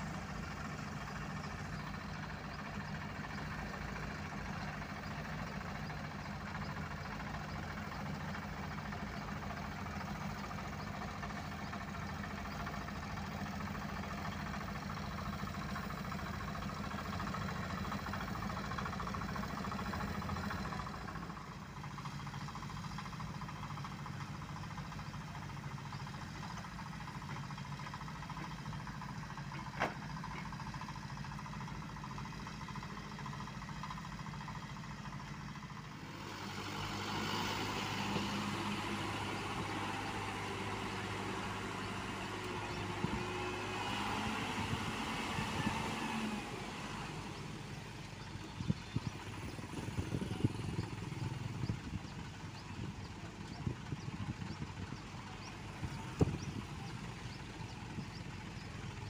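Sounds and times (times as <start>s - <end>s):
paving machine engines running: 0.0s - 59.0s.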